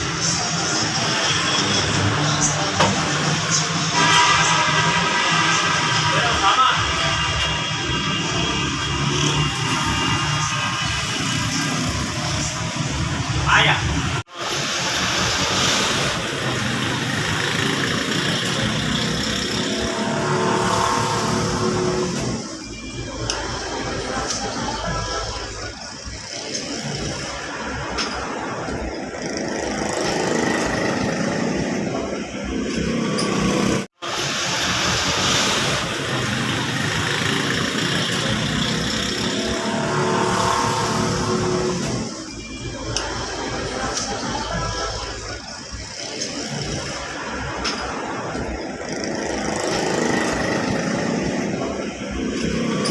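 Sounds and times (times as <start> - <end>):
road noise: 0.0 - 52.9.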